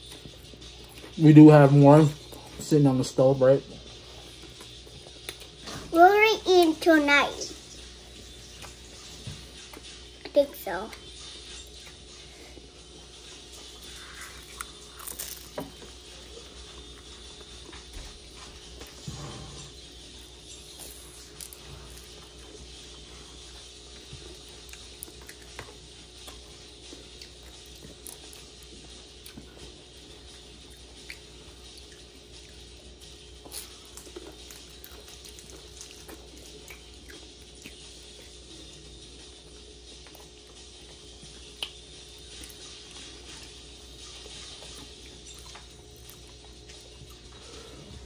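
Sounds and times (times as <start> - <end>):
people chewing food: 0.0 - 48.0
steady low hum: 0.0 - 48.0.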